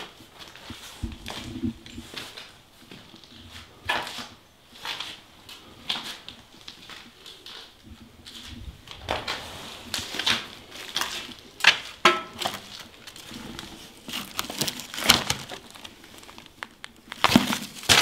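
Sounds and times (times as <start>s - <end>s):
footsteps crunching over rubble: 0.0s - 18.0s.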